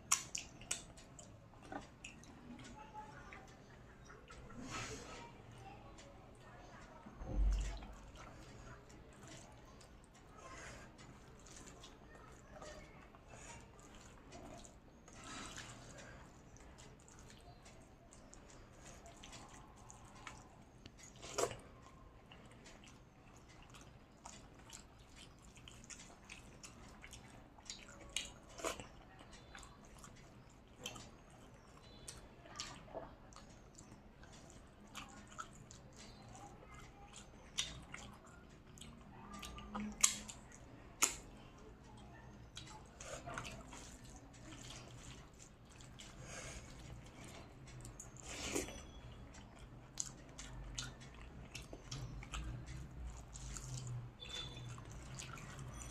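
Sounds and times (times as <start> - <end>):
chewing and wet mouth noises: 0.0 - 55.9.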